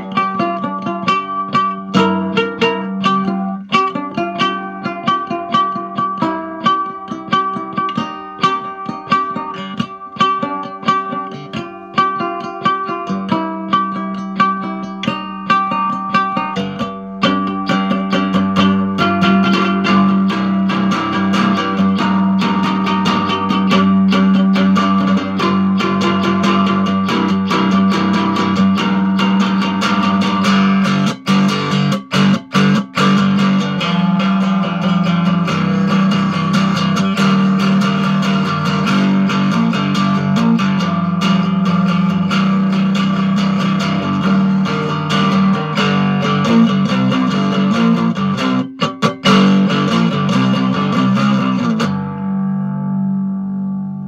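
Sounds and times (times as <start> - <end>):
cigar box guitar playing: 0.0 - 54.0.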